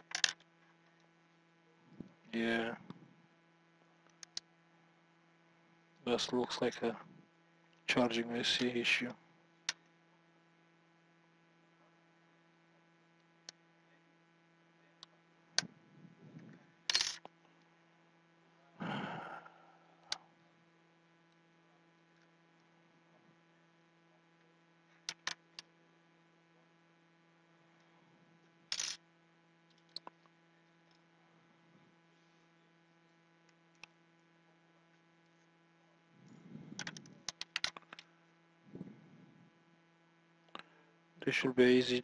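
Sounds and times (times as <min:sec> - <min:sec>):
faint mains hum: 0:00.0 - 0:42.0.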